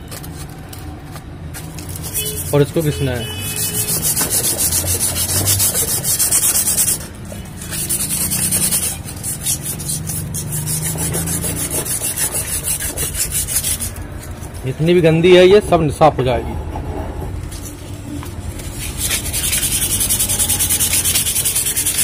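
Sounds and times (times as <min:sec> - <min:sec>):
sandpaper sanding metal: 0:01.8 - 0:15.1, 0:17.5 - 0:22.0.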